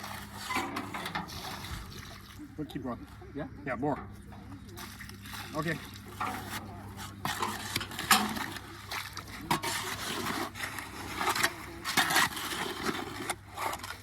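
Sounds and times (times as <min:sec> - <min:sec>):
shovel scraping wet concrete: 0:00.0 - 0:02.4, 0:04.7 - 0:14.0.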